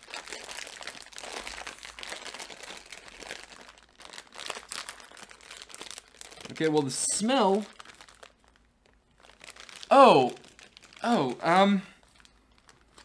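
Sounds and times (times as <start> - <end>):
plastic candy bag crinkling: 0.0 - 13.0.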